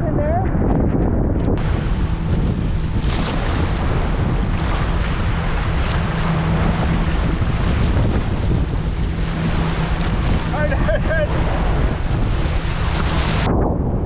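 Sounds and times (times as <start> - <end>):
wind buffeting microphone: 0.0 - 14.0
water rushing and churning: 1.5 - 14.0.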